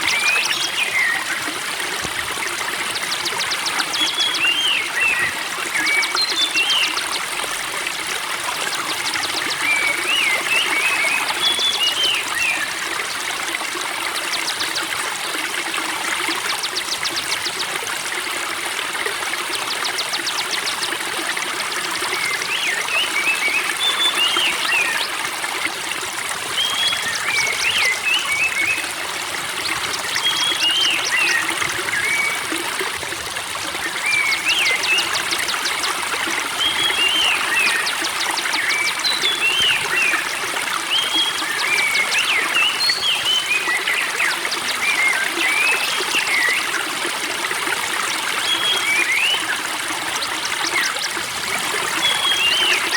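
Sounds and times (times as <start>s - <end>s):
birds singing: 0.0s - 7.7s, 8.5s - 13.2s, 14.1s - 17.8s, 19.5s - 25.8s, 26.4s - 32.9s, 33.6s - 46.9s, 47.5s - 52.9s
spring water trickling: 0.0s - 52.9s.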